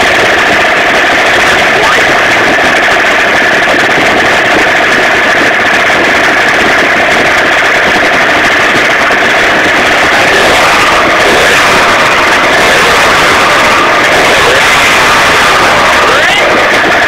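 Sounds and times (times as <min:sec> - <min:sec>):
moped engine buzzing: 0:00.0 - 0:17.0.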